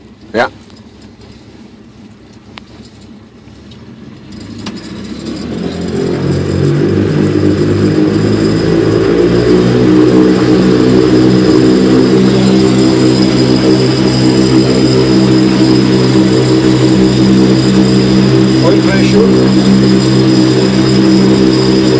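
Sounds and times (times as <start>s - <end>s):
aircraft engine revving: 0.0s - 21.9s.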